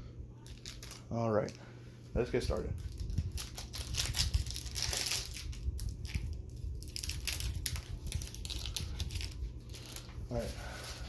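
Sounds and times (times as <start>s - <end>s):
foil wrapper crinkling and tearing: 0.4s - 1.6s, 2.5s - 11.0s.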